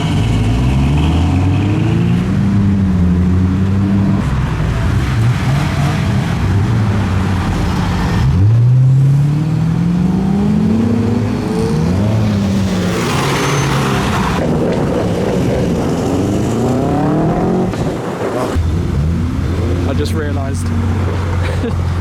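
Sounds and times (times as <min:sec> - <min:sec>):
car engines pulling away: 0:00.0 - 0:22.0
car revving and accelerating hard: 0:00.0 - 0:22.0.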